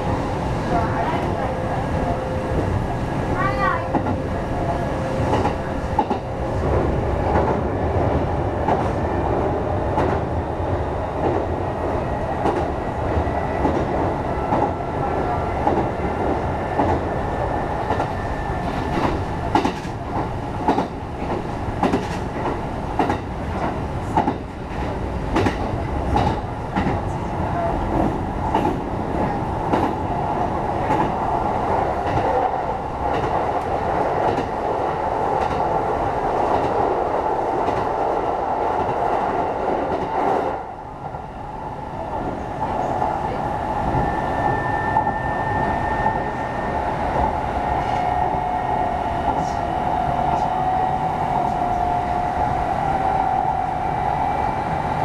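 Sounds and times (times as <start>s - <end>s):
train rolling rumble: 0.0s - 55.0s.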